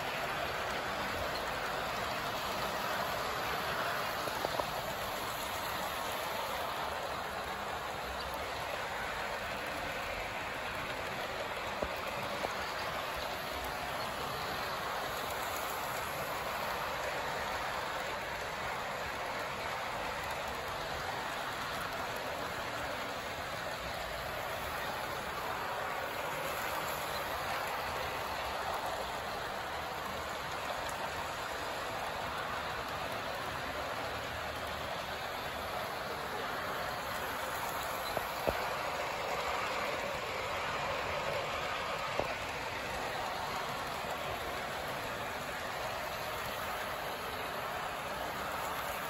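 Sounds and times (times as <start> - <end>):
model train whirring on track: 0.0 - 49.0.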